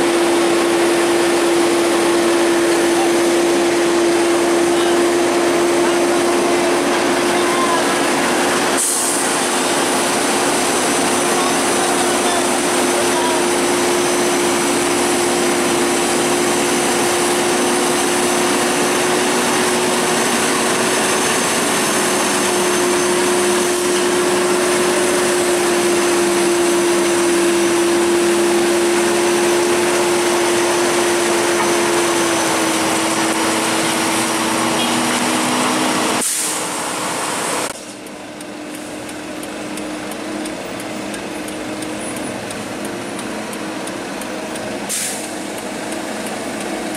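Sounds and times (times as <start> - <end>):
diesel truck engine drone: 0.0 - 46.9.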